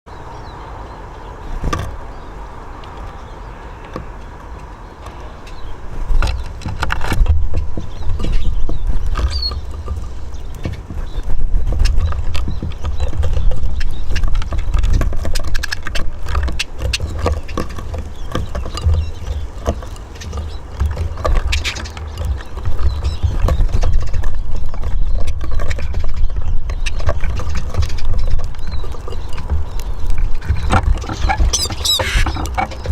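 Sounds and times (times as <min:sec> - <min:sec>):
birds pecking at seed: 0:00.1 - 0:32.9.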